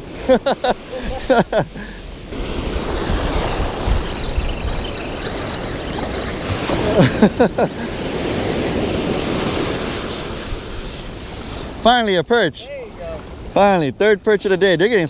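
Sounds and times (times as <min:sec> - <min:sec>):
surf washing onto beach: 0:00.0 - 0:14.0.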